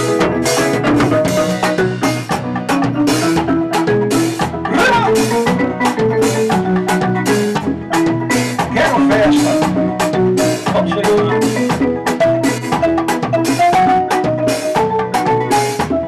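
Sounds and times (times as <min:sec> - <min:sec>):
drum and percussion beat: 0:00.0 - 0:16.0
synthesizer playing bright melody: 0:00.0 - 0:16.0.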